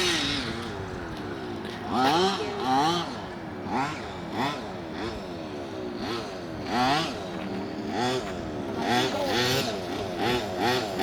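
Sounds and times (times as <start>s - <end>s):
model car engine revving: 0.0s - 11.0s.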